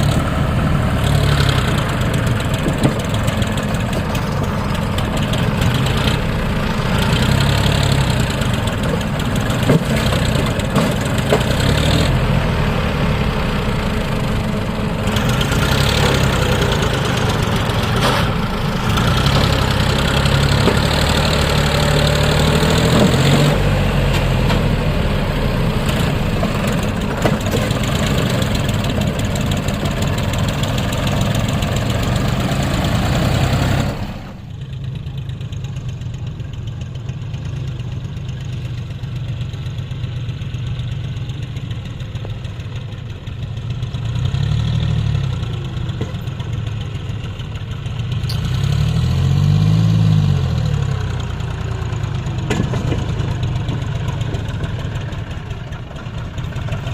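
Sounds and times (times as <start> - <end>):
engine revving: 0.0 - 34.5, 43.8 - 47.4, 48.0 - 56.9
diesel tractor engine running: 0.0 - 56.9.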